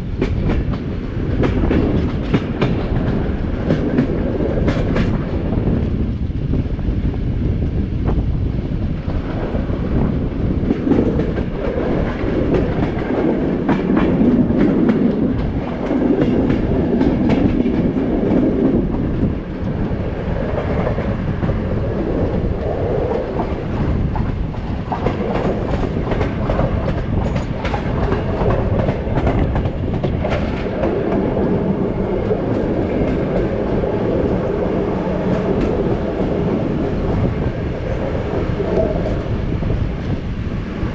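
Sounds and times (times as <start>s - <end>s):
train wheels clattering on rails: 0.0s - 6.6s, 9.0s - 40.9s.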